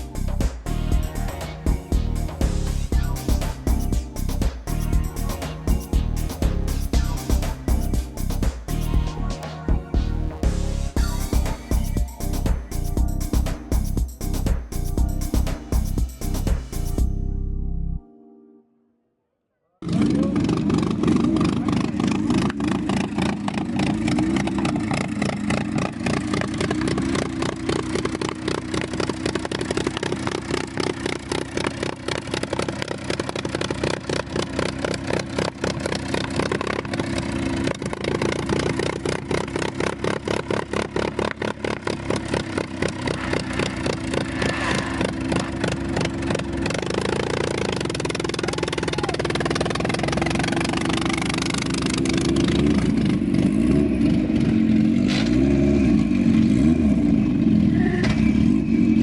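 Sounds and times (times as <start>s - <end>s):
car engine idling: 0.0s - 17.2s, 19.9s - 55.1s.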